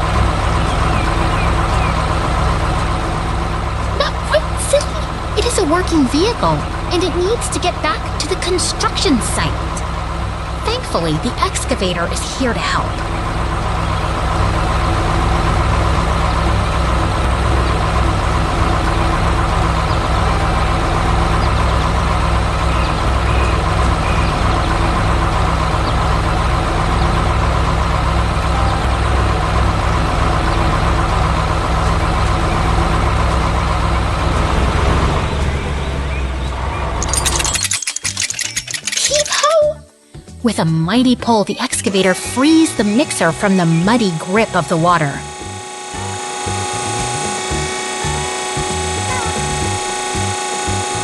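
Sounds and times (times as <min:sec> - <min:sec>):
heavy diesel engine drone: 0:00.0 - 0:39.5, 0:40.4 - 0:51.0.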